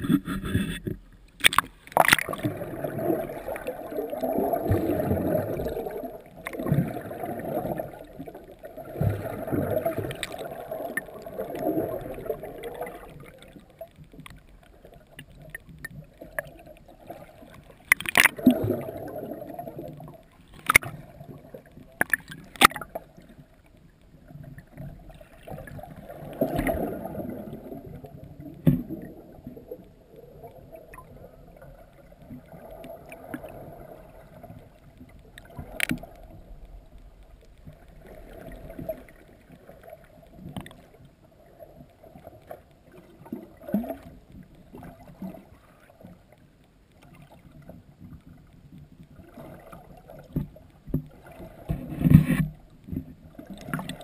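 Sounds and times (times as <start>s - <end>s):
underwater sloshing and gurgling: 0.0s - 54.0s.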